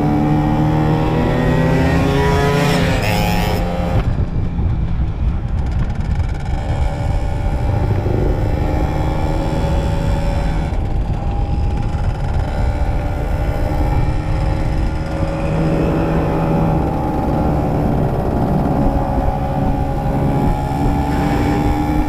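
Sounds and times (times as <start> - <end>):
two-stroke motorcycle engine: 0.0 - 22.0.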